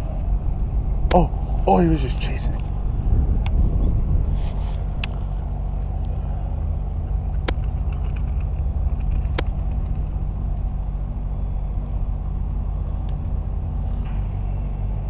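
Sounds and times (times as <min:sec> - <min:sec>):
machinery rumbling with hum: 0:00.0 - 0:15.0.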